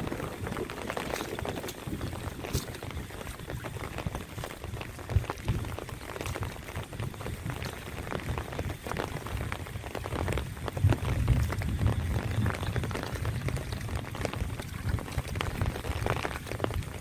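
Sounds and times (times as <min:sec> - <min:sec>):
dull low thuds: 0:00.0 - 0:15.9
rain pattering on water: 0:00.0 - 0:17.0.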